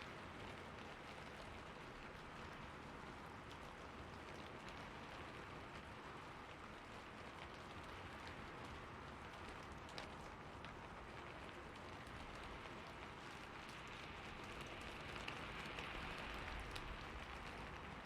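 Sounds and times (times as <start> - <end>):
rain on a rooftop: 0.0 - 18.0.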